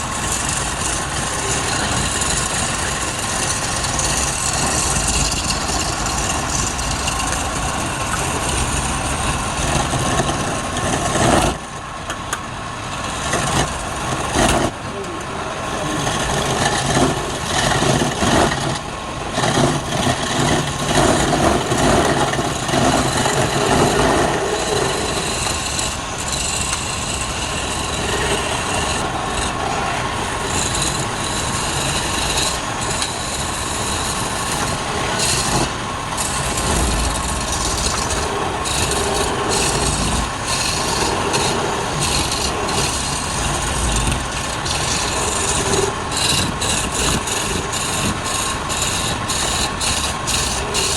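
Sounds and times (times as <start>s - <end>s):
lathe tool scraping wood: 0.0s - 11.9s, 12.9s - 50.9s
wood lathe hum: 0.0s - 50.9s.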